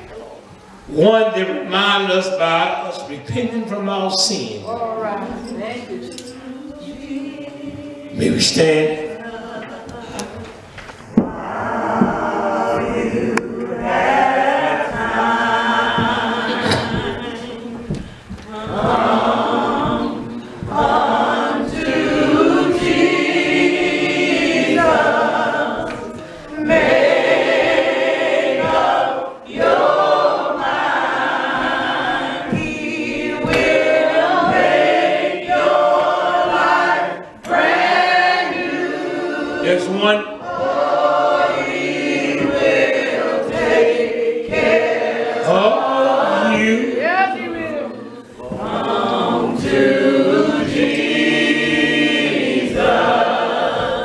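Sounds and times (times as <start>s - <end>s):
choir singing a hymn: 0.7s - 54.0s.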